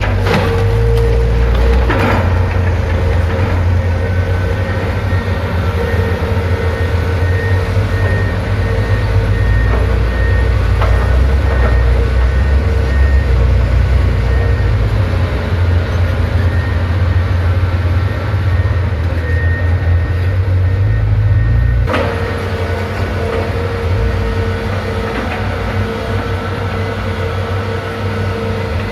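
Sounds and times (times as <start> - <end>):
truck diesel engine rumbling: 0.0 - 28.9.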